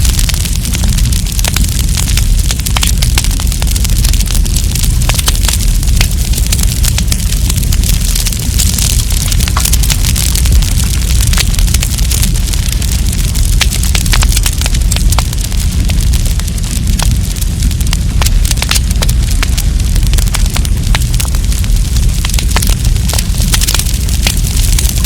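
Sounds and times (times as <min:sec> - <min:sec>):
campfire crackling and popping: 0:00.0 - 0:25.0
low rumble: 0:00.0 - 0:25.0.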